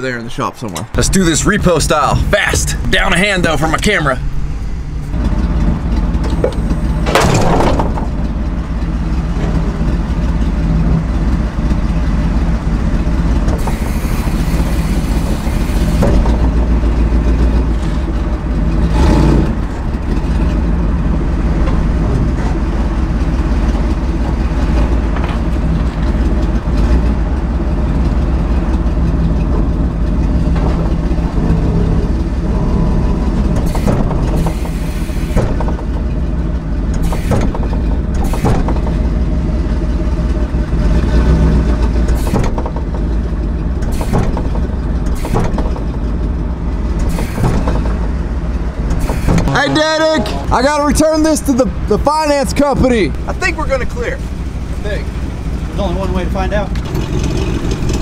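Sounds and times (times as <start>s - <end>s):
tow truck engine running: 0.0s - 58.0s.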